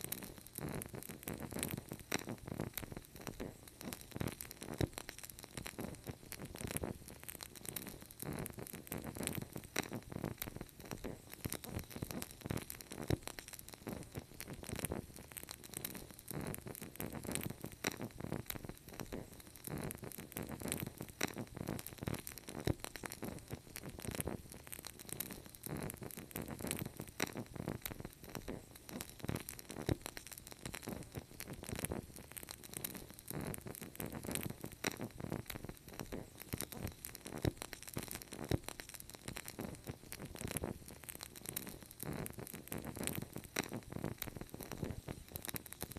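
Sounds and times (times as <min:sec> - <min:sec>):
fire crackling and popping: 0:00.0 - 0:45.9
soft steady hiss: 0:00.0 - 0:45.9.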